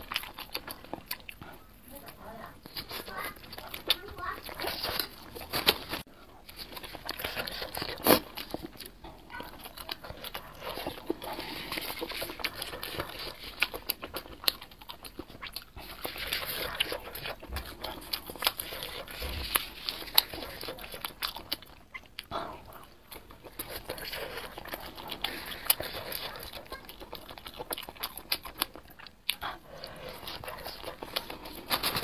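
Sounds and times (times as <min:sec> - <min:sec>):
close chewing with crunches: 0:00.0 - 0:32.0.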